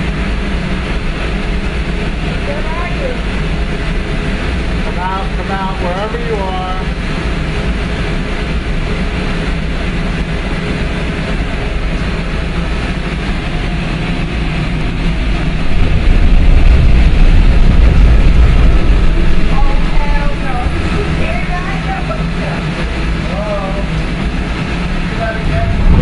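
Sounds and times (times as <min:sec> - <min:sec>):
machinery low rumble and hum: 0:00.0 - 0:26.0.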